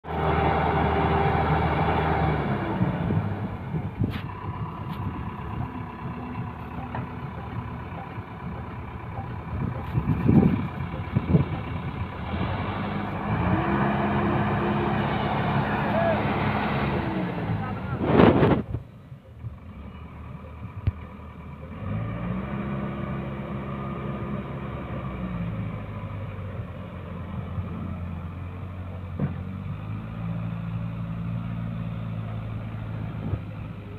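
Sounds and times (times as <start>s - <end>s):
diesel engines under load: 0.0s - 33.9s.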